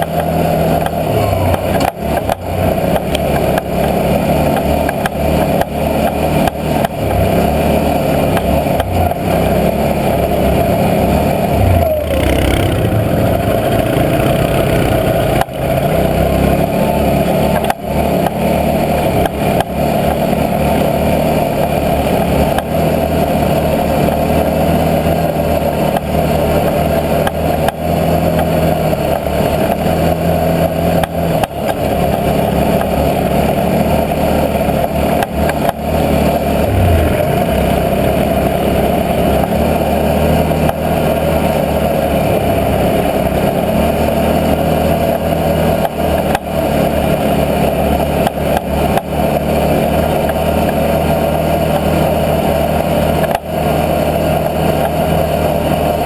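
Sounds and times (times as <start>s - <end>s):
atv engine under throttle: 0.0s - 56.0s.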